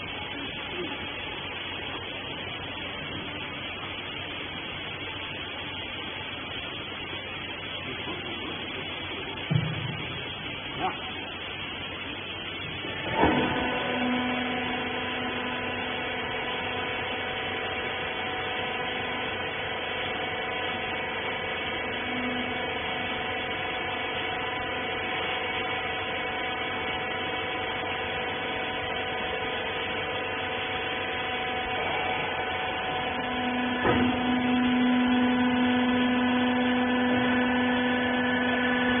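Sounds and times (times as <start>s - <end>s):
hydraulic pump motor whine: 0.0s - 39.0s.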